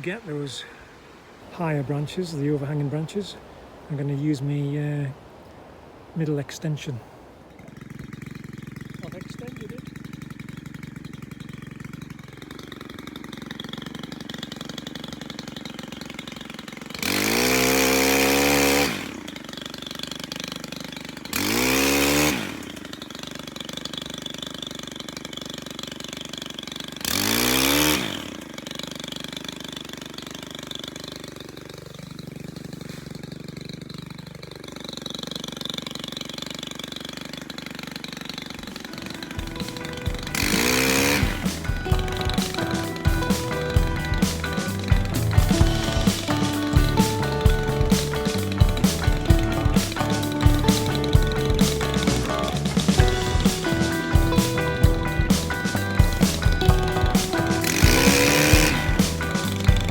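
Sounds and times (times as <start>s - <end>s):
small engine revving: 7.3s - 59.9s.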